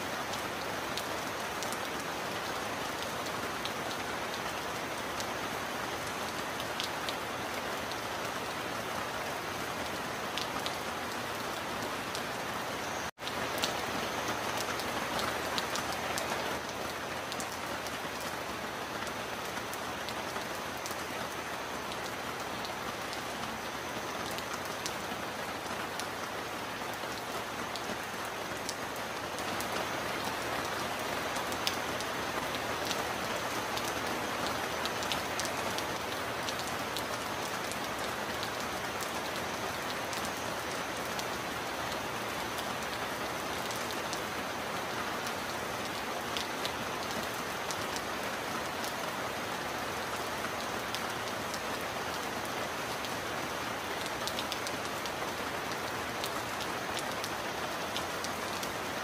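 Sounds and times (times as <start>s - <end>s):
heavy rain falling: 0.0s - 59.0s
sharp ticks of raindrops: 0.0s - 59.0s.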